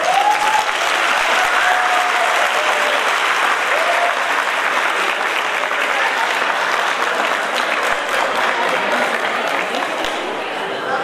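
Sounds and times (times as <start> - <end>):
audience applauding: 0.0 - 10.5
people cheering: 0.0 - 11.0.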